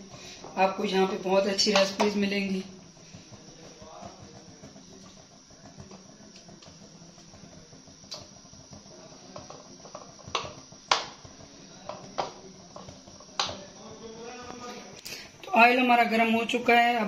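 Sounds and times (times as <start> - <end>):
spoon stirring thick batter: 0.0 - 17.0.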